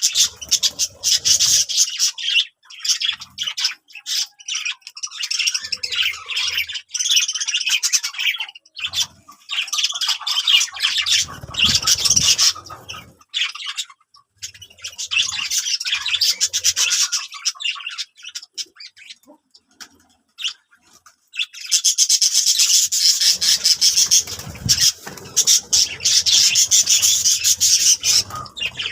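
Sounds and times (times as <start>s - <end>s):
budgerigars chattering and warbling: 0.0s - 28.9s.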